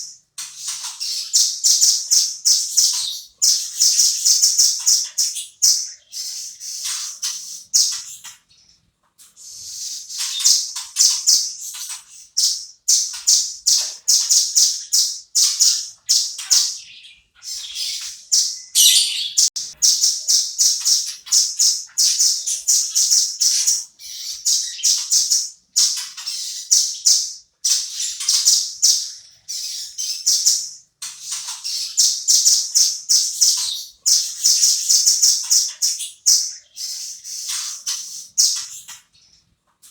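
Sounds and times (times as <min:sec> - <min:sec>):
bird singing trilled phrases: 0:00.0 - 0:39.5.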